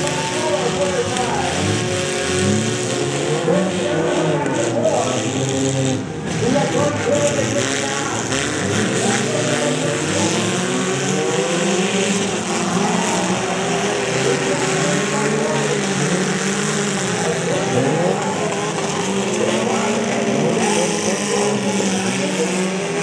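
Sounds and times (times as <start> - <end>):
car engines revving: 0.0 - 23.0
steady background noise: 0.0 - 23.0.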